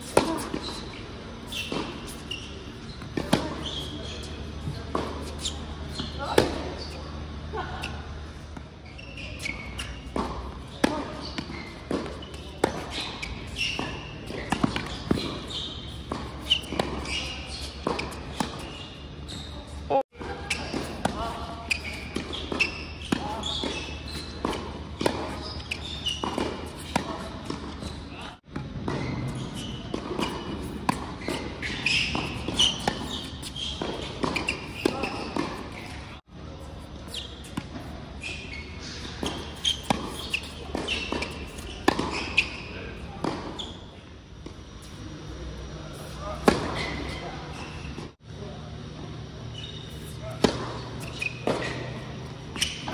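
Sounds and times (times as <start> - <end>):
racket strikes and ball bounces: 0.0 - 6.9, 9.3 - 19.1, 20.2 - 36.0, 37.1 - 43.6, 46.3 - 47.2, 50.0 - 52.9
shoes squeaking on court: 0.0 - 48.2, 48.8 - 52.9.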